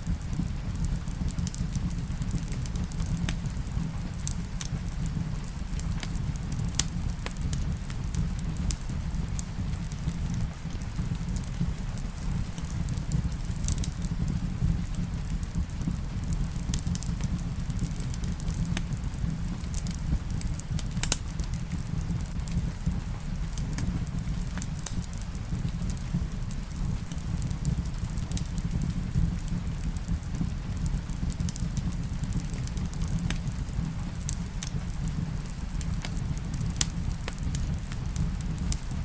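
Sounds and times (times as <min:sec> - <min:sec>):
rain rumbling: 0:00.0 - 0:39.0
wood fire crackling: 0:00.0 - 0:39.0.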